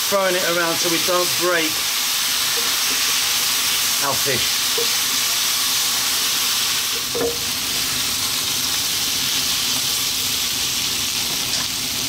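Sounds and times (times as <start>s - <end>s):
fish sizzling in a wok: 0.0s - 12.0s.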